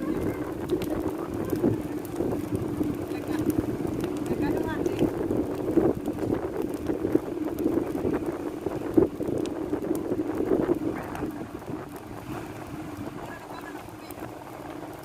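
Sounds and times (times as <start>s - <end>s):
bonfire crackling: 0.0s - 15.0s
wind buffeting microphone: 0.0s - 15.0s.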